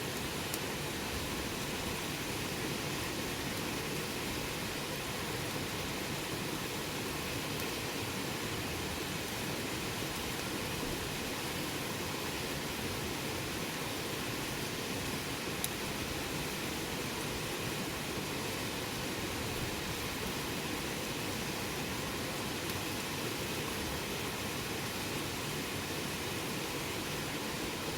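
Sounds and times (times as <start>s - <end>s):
campfire hissing: 0.0s - 27.9s.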